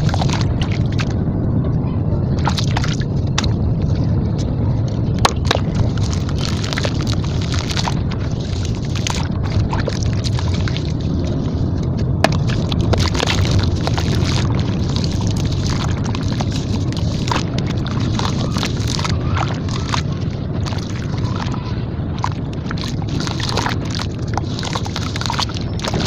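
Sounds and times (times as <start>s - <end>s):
water sloshing: 0.0s - 1.2s, 2.3s - 26.0s
wet crunching and squelching: 0.0s - 1.2s, 2.4s - 26.0s
low rumble: 0.0s - 26.0s.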